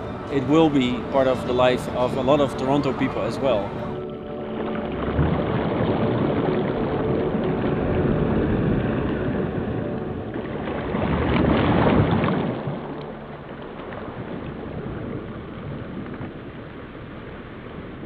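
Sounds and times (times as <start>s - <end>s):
rushing wind or surf noise: 0.0s - 18.0s.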